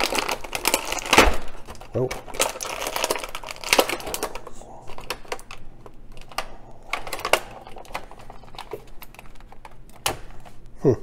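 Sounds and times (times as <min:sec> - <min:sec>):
plastic packaging crackling: 0:00.0 - 0:10.6.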